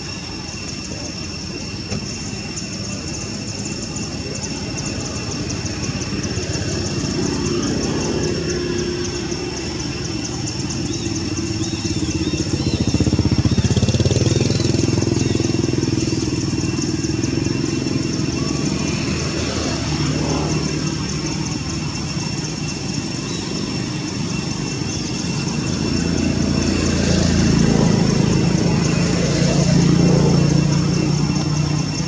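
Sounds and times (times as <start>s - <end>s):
high-pitched buzz: 0.0s - 32.0s
vehicle engine rumbling: 0.0s - 32.0s.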